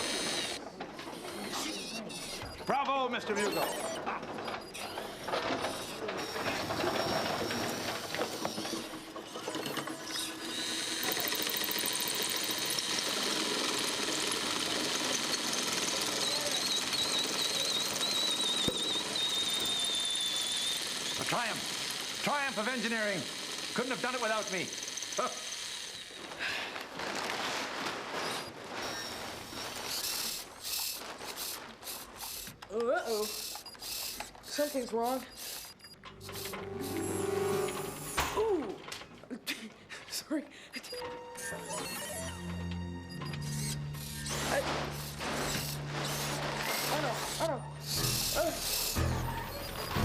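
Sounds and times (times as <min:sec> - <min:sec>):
robot whirring and clattering: 0:00.0 - 0:26.2, 0:28.3 - 0:39.0, 0:43.2 - 0:50.0.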